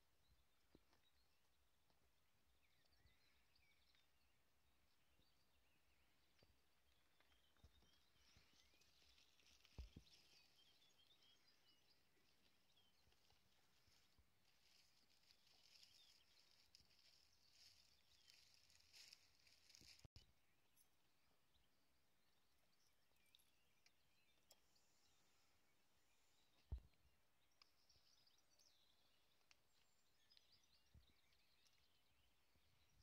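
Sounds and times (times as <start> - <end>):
faint bird calls and song: 0.0 - 33.0.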